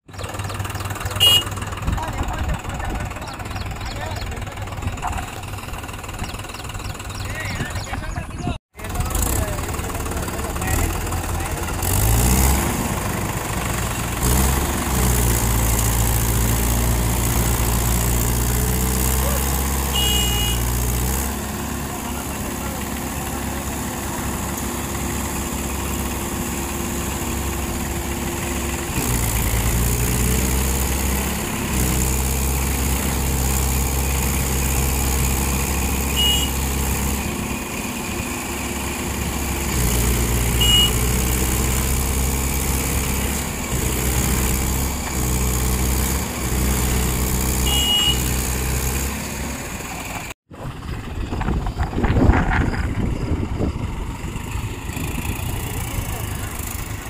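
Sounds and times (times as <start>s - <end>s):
diesel tractor engine revving: 0.0s - 57.0s.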